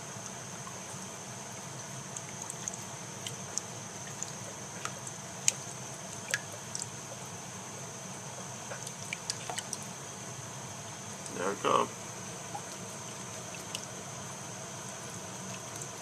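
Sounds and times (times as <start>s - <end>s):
sharp water drips: 0.2s - 10.0s, 12.2s - 16.0s.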